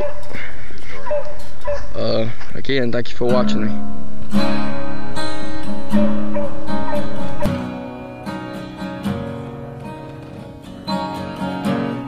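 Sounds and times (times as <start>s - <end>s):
acoustic guitar picking and strumming: 0.0s - 2.0s, 3.2s - 12.0s.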